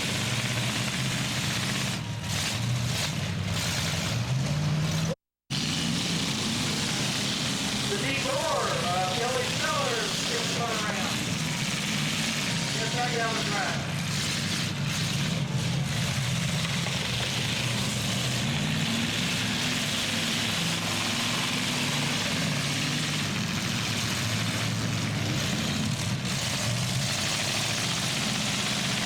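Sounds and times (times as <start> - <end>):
truck engines revving: 0.0 - 29.0.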